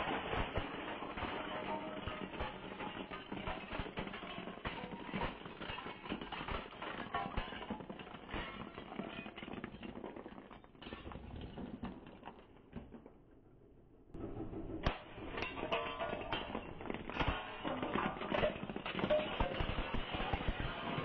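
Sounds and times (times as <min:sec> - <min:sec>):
tyre crushing glass tubes: 0:00.0 - 0:12.3, 0:15.4 - 0:21.0.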